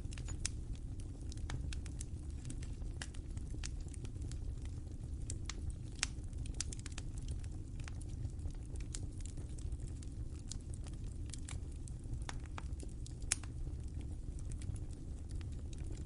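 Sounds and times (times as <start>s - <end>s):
fire popping and snapping: 0.0s - 16.0s
wood fire crackling: 0.0s - 16.0s.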